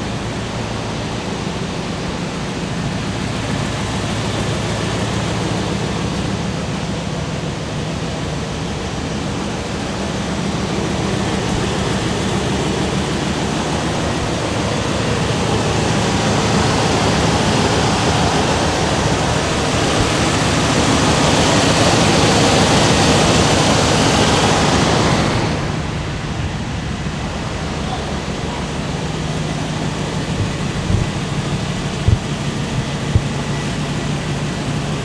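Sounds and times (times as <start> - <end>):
low engine drone: 0.0 - 35.0
road and wind noise: 0.0 - 35.0.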